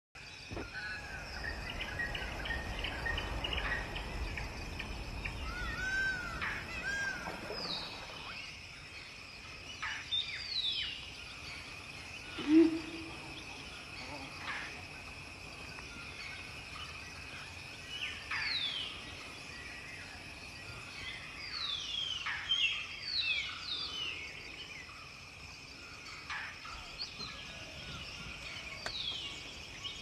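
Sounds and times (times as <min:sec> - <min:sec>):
high insect drone: 0:00.2 - 0:30.0.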